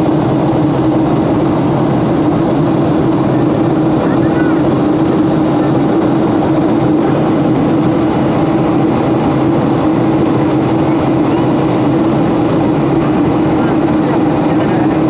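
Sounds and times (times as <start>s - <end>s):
airplane engines droning: 0.0s - 15.0s.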